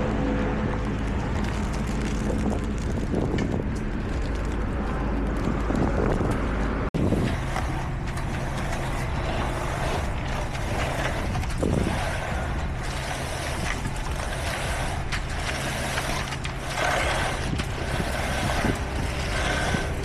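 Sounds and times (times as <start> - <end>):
construction machinery engines running: 0.0 - 20.0.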